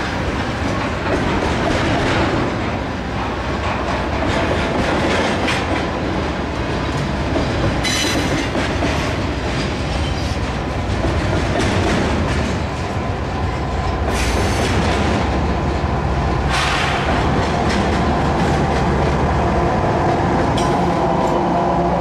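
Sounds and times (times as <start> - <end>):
freight train rumbling past: 0.0 - 22.0
train wheels clickety-clack: 0.0 - 22.0.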